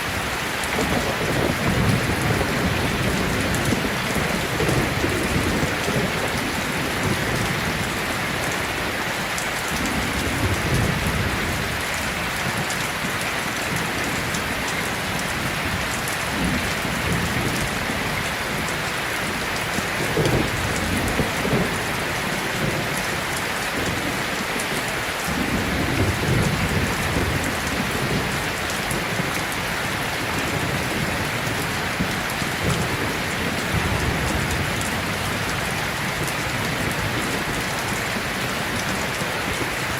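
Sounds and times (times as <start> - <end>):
distant thunder rumbling: 0.0 - 8.9, 13.7 - 39.8
steady rain falling: 0.0 - 39.9.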